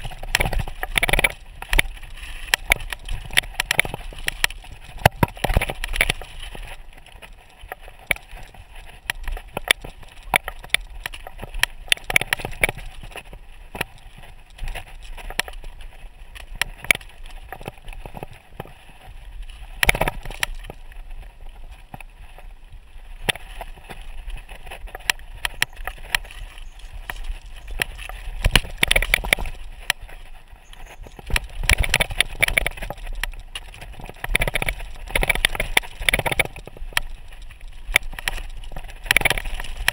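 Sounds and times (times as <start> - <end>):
bike rattling and knocking: 0.0 - 22.5, 23.1 - 39.9
tyres crunching over loose stone: 0.0 - 39.9.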